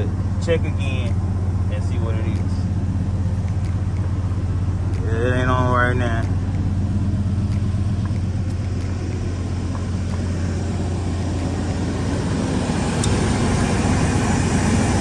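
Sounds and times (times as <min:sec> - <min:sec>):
engine idling low hum: 0:00.0 - 0:15.0.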